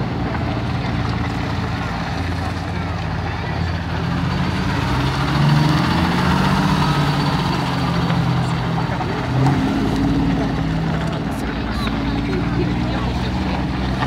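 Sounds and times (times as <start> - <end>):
heavy truck diesel engine passing: 0.0 - 14.0.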